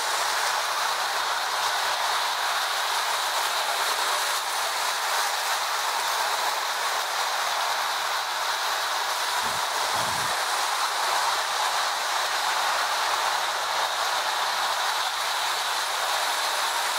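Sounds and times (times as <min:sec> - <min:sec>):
toy trains whirring on metal rails: 0:00.0 - 0:16.9.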